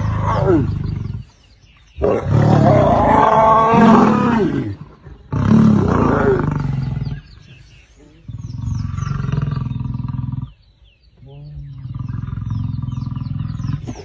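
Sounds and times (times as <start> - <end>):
lion roaring and snarling: 0.0 - 1.4, 2.0 - 7.4, 8.2 - 10.7, 11.6 - 14.0.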